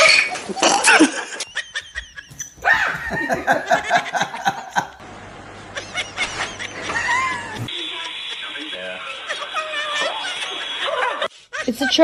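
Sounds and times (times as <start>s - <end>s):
people snickering: 0.4s - 5.0s, 5.7s - 12.0s.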